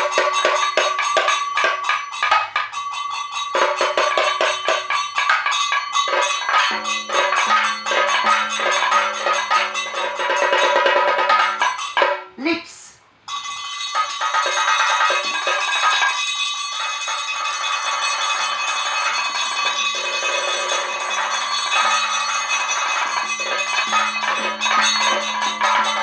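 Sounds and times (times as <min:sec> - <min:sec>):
ringing metal percussion: 0:00.0 - 0:12.4, 0:13.0 - 0:26.0
drum beaten with sticks: 0:00.0 - 0:26.0.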